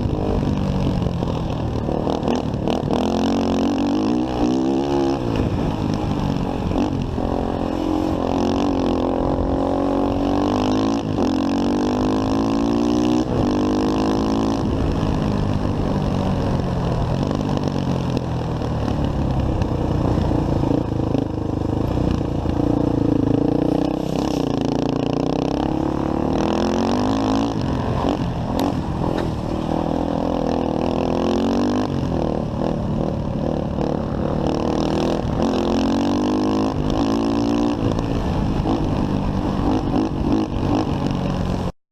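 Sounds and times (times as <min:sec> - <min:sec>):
motorcycle engine accelerating: 0:00.0 - 0:41.7
wind and road noise: 0:00.0 - 0:41.7.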